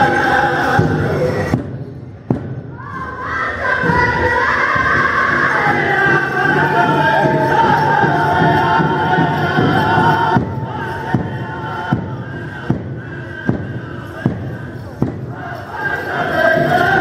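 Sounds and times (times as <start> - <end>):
group singing in high voices: 0.0 - 1.6, 2.7 - 17.0
big drum beats echoing: 0.0 - 17.0.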